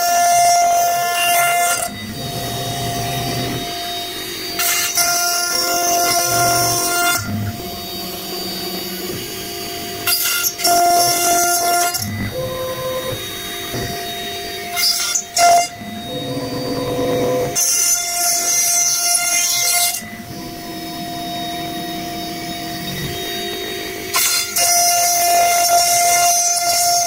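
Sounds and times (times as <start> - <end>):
router bit cutting wood: 0.0 - 27.0
router spindle whining: 0.0 - 27.0.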